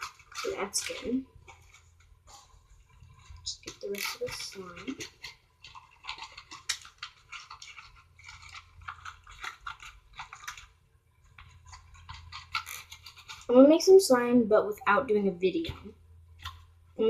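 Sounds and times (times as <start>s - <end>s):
slime scraping and squelching: 0.0s - 14.2s.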